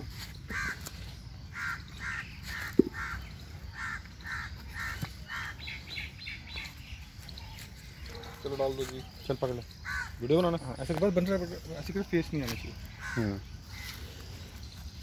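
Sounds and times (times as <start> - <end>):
bird harsh calls: 0.0 - 15.0.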